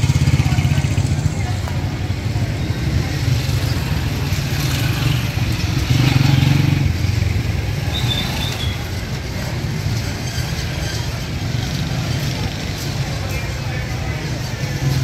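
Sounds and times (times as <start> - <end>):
motorcycle engines running: 0.0 - 15.0
street traffic: 0.0 - 15.0.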